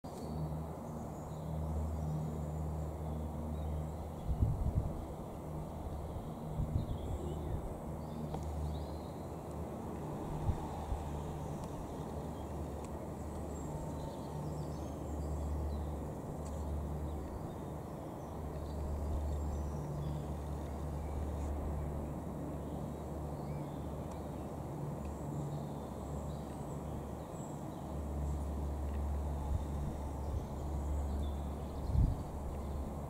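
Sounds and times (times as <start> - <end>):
distant turboprop engines humming: 0.1 - 33.0.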